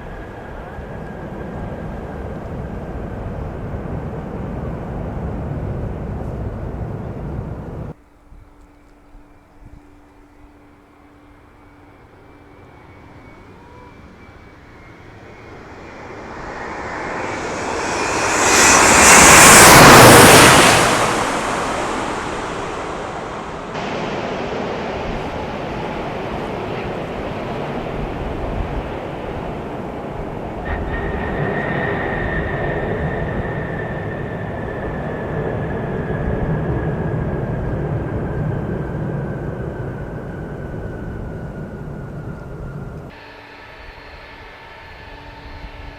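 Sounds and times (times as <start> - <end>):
jet airliner passing overhead: 0.0 - 8.0, 10.3 - 45.9.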